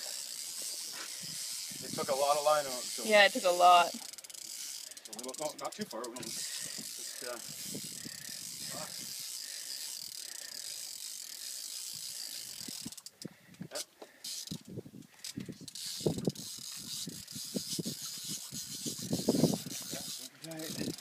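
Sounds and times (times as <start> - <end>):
fishing reel drag buzzing: 0.0 - 13.4, 14.1 - 21.0.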